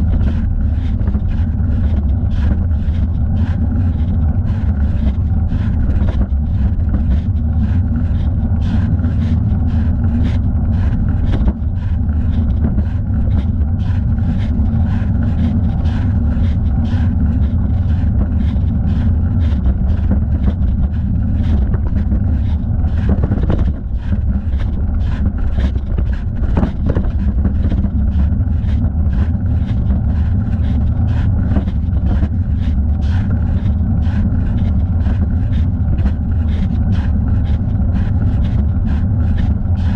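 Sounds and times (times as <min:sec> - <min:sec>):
faint pedalling pulse: 0:00.0 - 0:39.9
wind and road rumble: 0:00.0 - 0:39.9.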